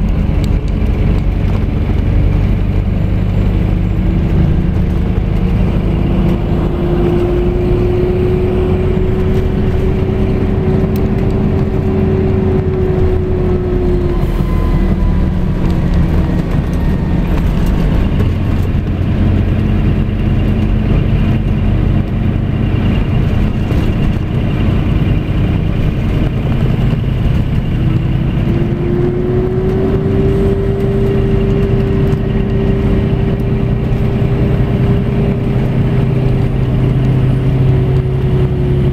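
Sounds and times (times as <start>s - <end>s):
coach engine drone: 0.0s - 38.9s
road noise: 0.0s - 38.9s
steady whine: 0.0s - 38.9s.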